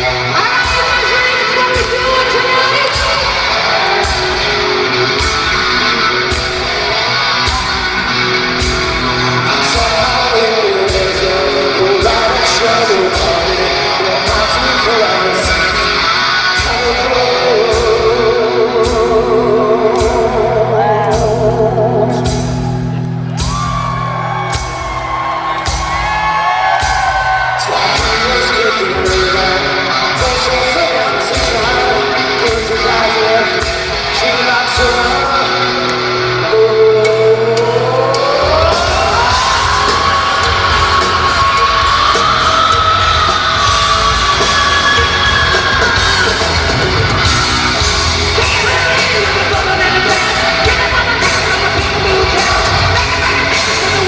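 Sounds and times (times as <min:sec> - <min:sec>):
person singing: 0:00.0 - 0:24.0, 0:26.8 - 0:54.0
steady drum beat: 0:00.0 - 0:35.4, 0:37.7 - 0:54.0
bass guitar: 0:00.0 - 0:54.0
distorted electric guitars: 0:00.0 - 0:54.0.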